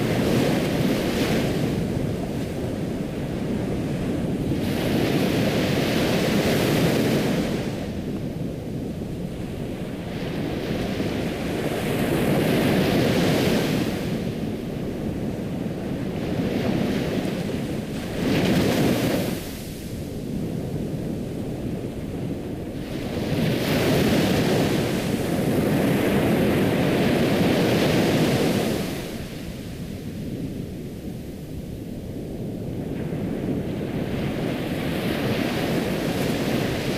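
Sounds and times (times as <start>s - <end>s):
ocean waves breaking on shore: 0.0s - 36.9s.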